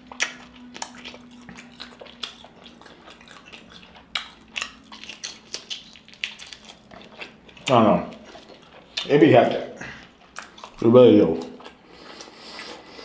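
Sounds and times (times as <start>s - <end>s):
man chewing food: 0.0s - 13.0s.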